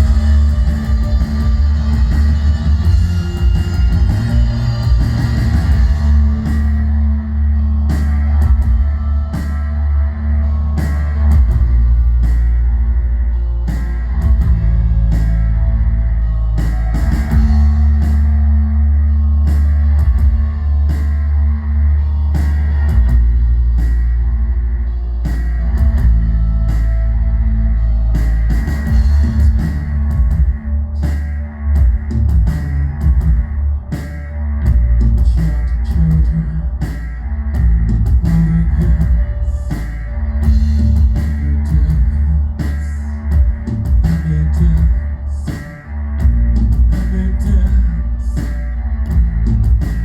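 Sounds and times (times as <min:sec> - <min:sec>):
droning bass line: 0:00.0 - 0:50.0.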